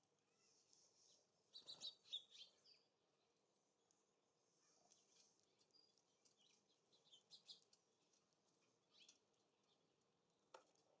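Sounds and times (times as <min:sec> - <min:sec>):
small songbirds chirping: 0:00.4 - 0:11.0.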